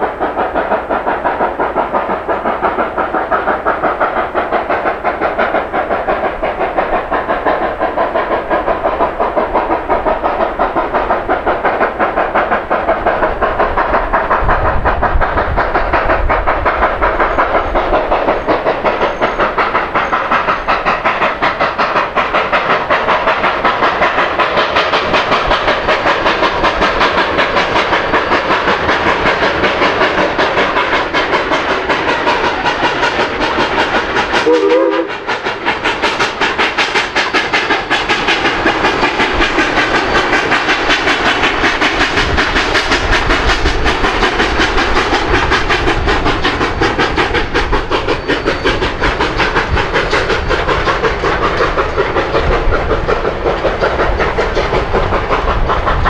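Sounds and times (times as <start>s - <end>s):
train clattering: 0.0s - 56.0s.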